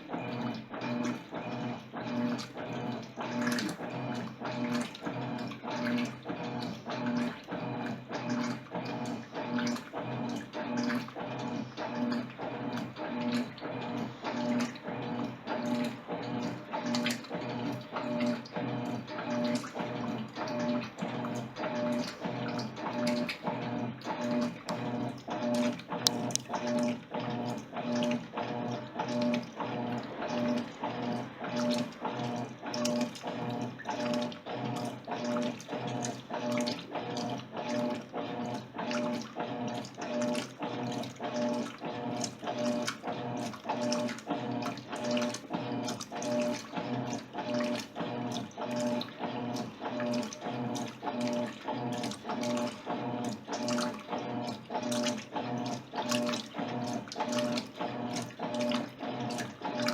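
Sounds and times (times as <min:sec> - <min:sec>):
washing machine motor hum: 0:00.0 - 0:59.9
water sloshing: 0:00.0 - 0:59.9.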